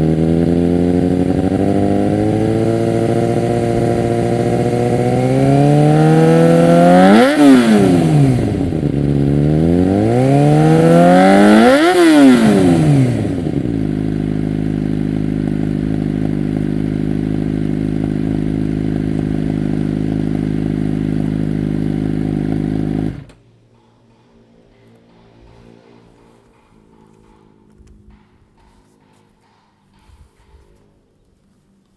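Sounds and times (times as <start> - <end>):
motorcycle engine revving and idling: 0.0 - 31.6.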